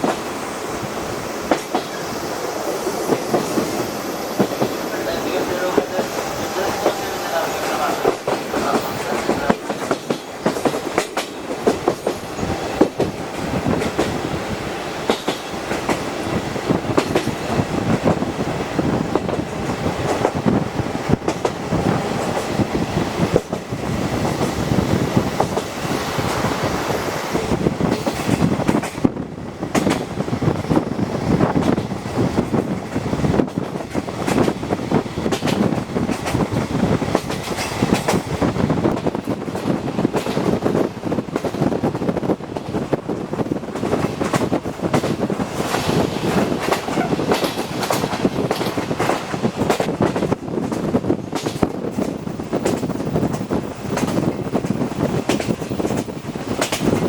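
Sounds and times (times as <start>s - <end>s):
wheels clacking over rail joints: 0.0s - 14.3s, 14.9s - 57.0s
train rolling rumble: 0.0s - 57.0s.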